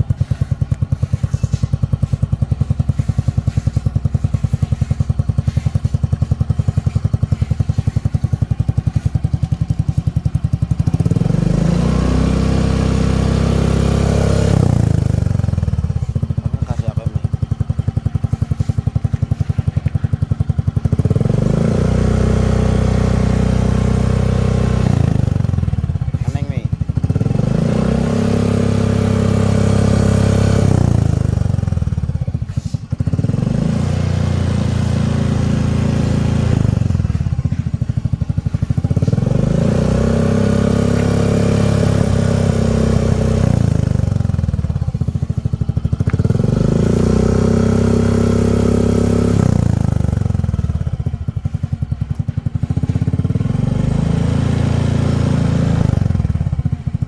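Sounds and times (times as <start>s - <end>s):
scooter engine revving: 0.0s - 57.0s.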